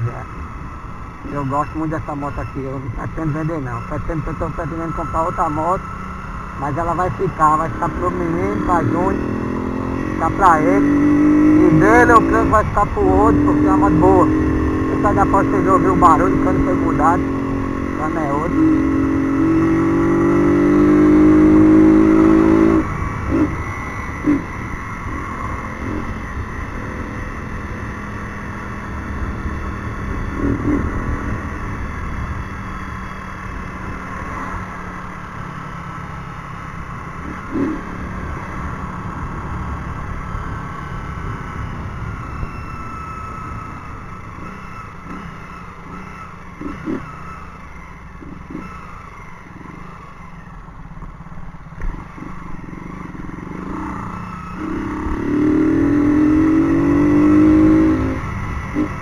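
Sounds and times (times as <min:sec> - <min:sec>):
motorcycle engine riding: 0:00.0 - 0:59.0.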